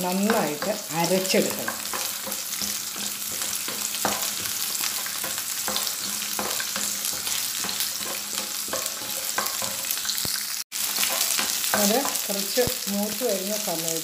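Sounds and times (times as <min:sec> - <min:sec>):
food sizzling in hot oil: 0:00.0 - 0:14.0
wooden spatula scraping a pan: 0:00.2 - 0:10.2, 0:10.9 - 0:12.2.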